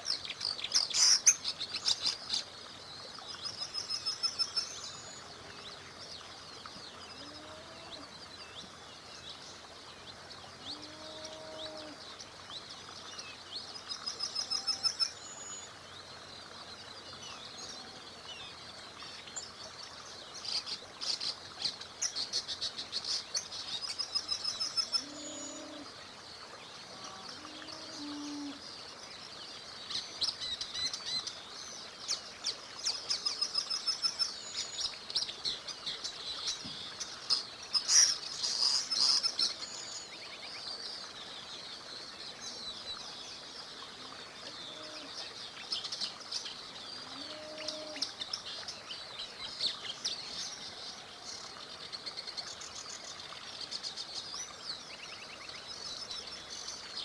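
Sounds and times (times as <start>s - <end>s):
faint background hiss: 0.0s - 57.0s
songbirds chirping and trilling: 0.0s - 57.0s.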